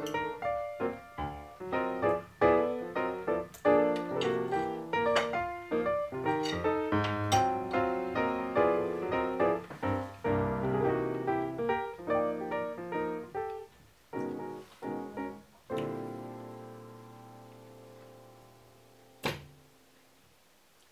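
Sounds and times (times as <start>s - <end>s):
piano music: 0.0s - 19.2s.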